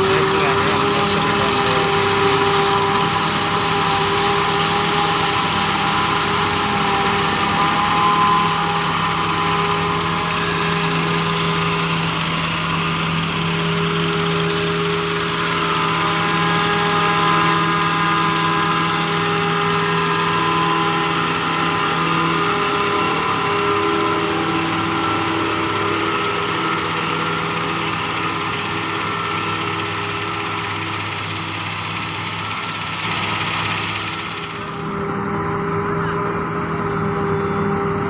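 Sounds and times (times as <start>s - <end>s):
forage harvester engine drone: 0.0s - 38.0s
high machine whine: 0.0s - 38.0s.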